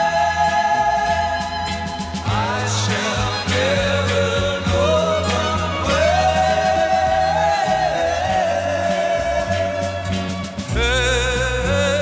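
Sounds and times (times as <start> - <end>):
band backing: 0.0 - 12.0
men singing pop ballad in harmony: 0.0 - 12.0.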